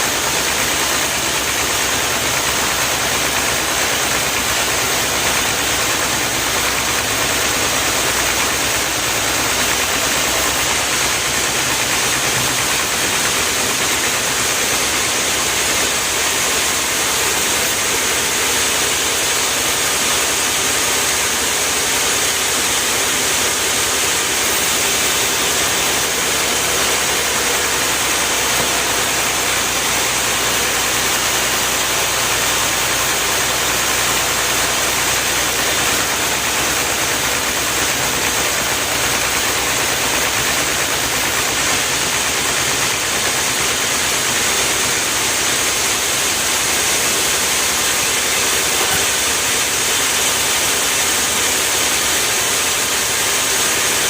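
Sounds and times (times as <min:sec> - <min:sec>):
machine engine hissing: 0:00.0 - 0:54.0.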